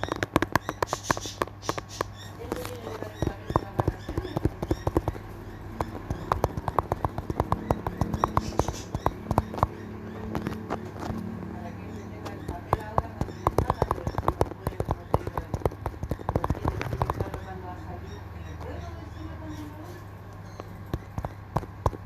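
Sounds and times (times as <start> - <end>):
fingers tapping and clicking: 0.0 - 19.7, 20.3 - 22.0
steady low hum: 0.0 - 22.0.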